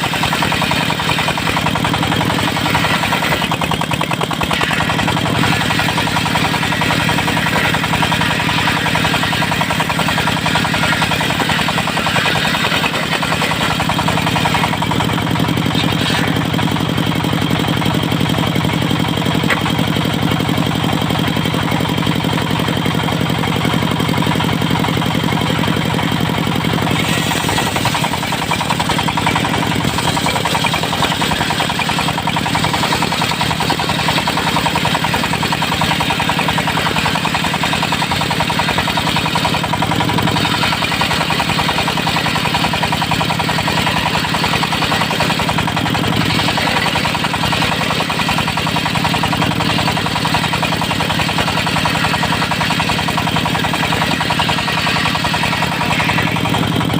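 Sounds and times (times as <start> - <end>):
circular saw cutting wood: 0.0 - 56.9
diesel engine drone: 0.0 - 56.9.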